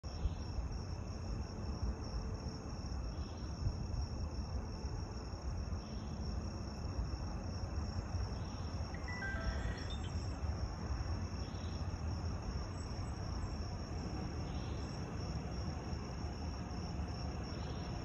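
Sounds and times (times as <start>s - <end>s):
crickets trilling: 0.1s - 18.0s.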